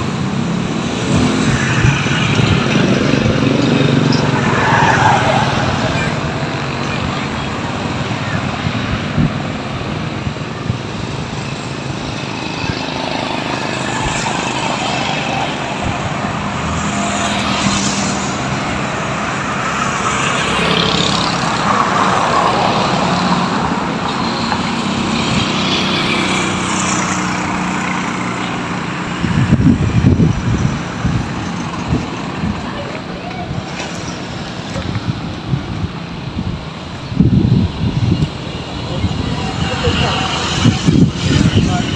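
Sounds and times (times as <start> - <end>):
highway traffic passing: 0.0 - 41.9
low wind buffeting: 0.0 - 41.9
motorcycle tricycle passing: 0.0 - 41.9.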